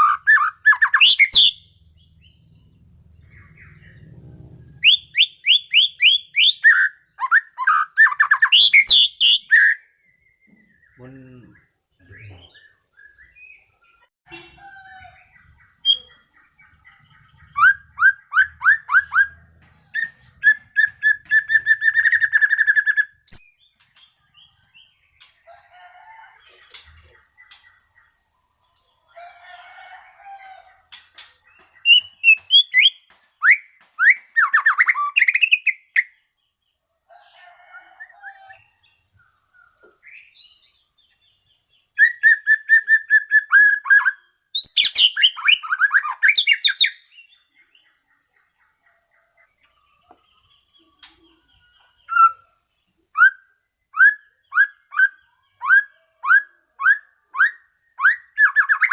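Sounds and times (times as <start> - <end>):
songbird singing trills and whistles: 0.0 - 25.4, 30.7 - 36.4, 37.6 - 58.9.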